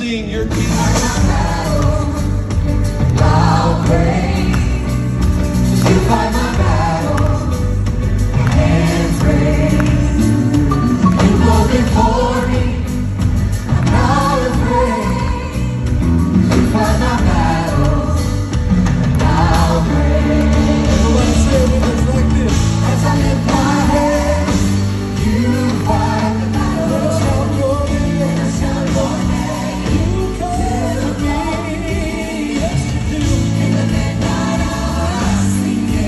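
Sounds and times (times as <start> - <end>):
drums: 0.0 - 36.0
keyboard: 0.0 - 36.0
people singing into microphones: 0.0 - 36.0.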